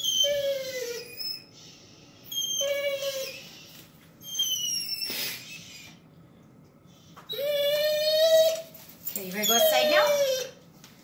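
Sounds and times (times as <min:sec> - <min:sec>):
dog whining: 0:00.0 - 0:06.0, 0:07.3 - 0:10.6.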